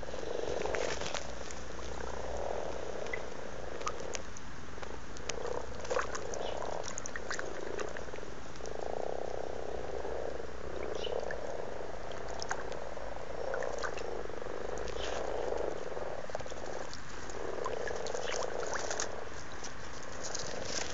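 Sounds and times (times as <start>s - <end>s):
frogs croaking in chorus: 0.0s - 20.9s.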